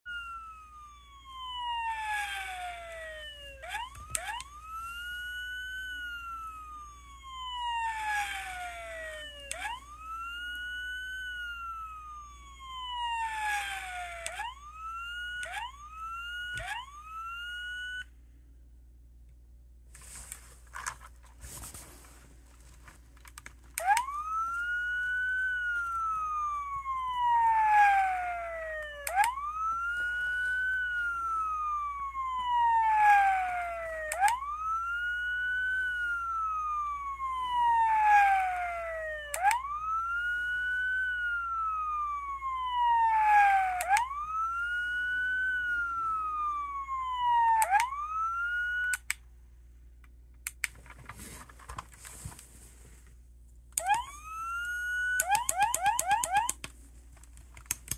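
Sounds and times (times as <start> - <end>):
toy siren wailing: 0.0 - 18.1, 23.8 - 49.2, 53.8 - 56.7.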